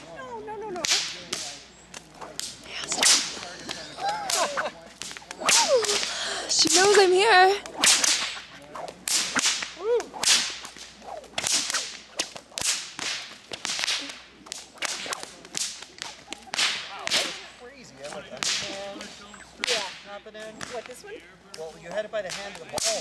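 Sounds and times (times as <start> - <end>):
whips cracking: 0.7 - 21.6, 22.2 - 23.0.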